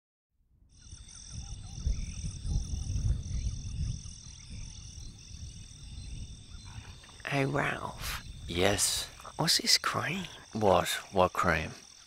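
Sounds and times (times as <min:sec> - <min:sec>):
insects chirring: 0:00.6 - 0:12.0
frog calls: 0:00.7 - 0:12.0.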